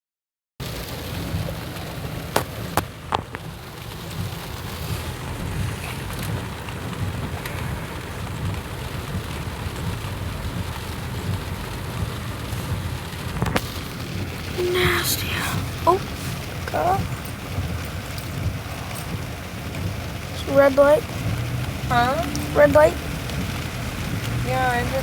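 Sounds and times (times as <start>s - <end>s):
heavy rain falling: 0.6s - 25.0s
low rumble: 4.2s - 25.0s.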